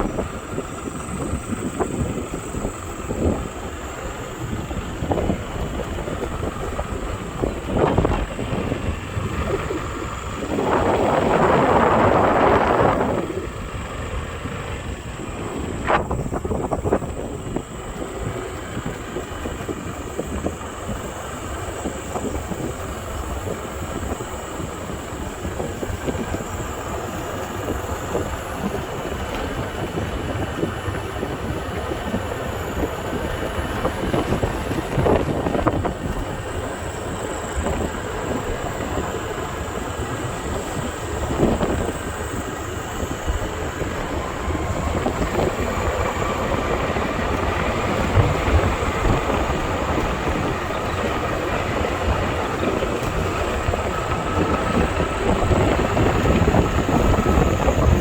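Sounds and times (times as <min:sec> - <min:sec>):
vehicle rumble: 0:00.0 - 0:58.0
wind on microphone: 0:00.0 - 0:58.0.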